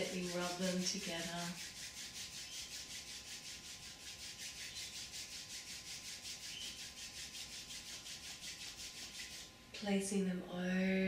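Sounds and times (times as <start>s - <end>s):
palms rubbing together: 0.0s - 9.6s.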